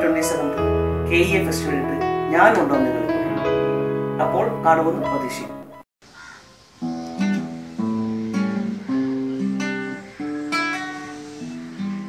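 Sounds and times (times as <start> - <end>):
acoustic guitar playing: 0.0 - 5.8, 6.8 - 12.0.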